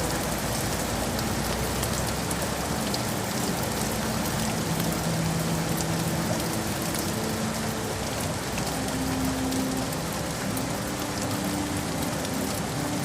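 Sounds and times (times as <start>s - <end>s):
rain hissing: 0.0s - 13.0s
soft slow music: 0.0s - 13.0s.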